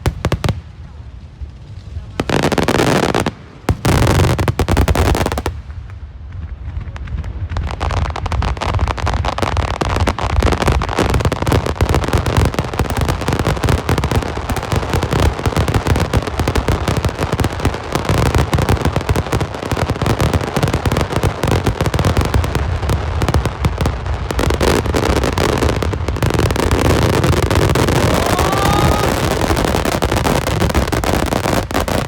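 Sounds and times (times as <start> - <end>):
deep rumbling firework bursts: 0.0 - 32.0
fireworks bursting and crackling: 0.0 - 32.0.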